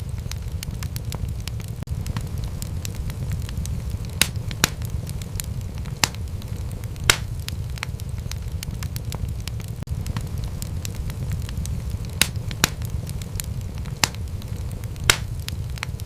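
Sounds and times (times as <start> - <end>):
loud fire pops: 0.0 - 16.0
wood fire crackling: 0.0 - 16.0.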